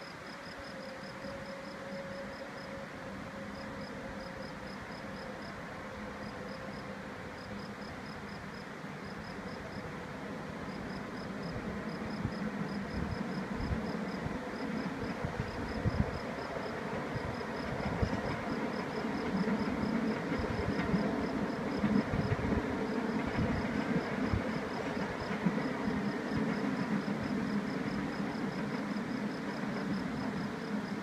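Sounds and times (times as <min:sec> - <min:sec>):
train rumbling on viaduct: 0:00.0 - 0:31.0.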